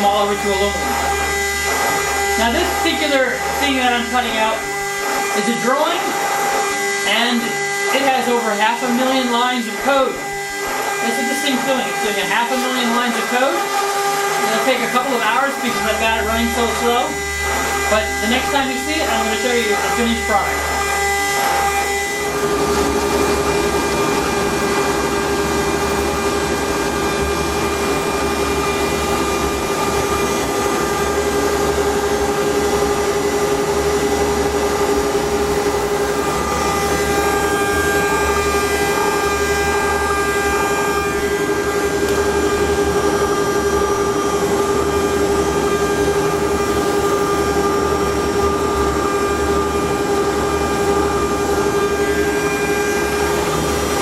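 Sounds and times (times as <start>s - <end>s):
cnc router spindle humming: 0.0s - 54.0s
steady machine noise: 0.0s - 54.0s.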